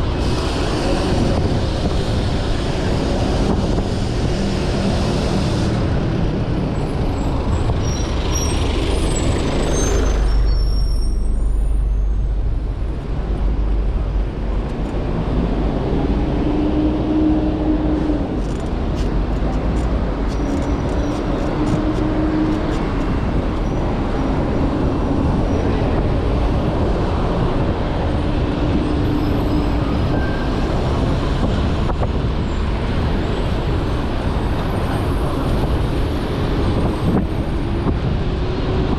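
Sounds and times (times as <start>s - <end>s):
motor traffic and road noise: 0.0s - 38.9s
wind rumble on microphone: 0.0s - 38.9s.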